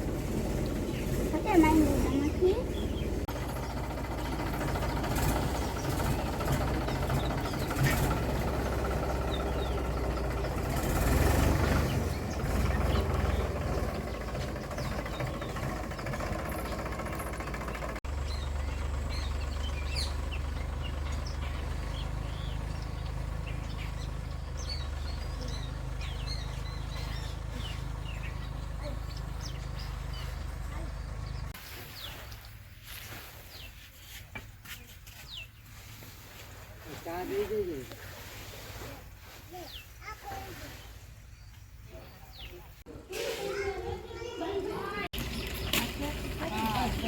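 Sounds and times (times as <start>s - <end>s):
engine humming: 0.0s - 33.7s, 34.3s - 47.0s
birds chirping: 0.0s - 38.2s, 38.9s - 42.9s, 43.5s - 47.0s.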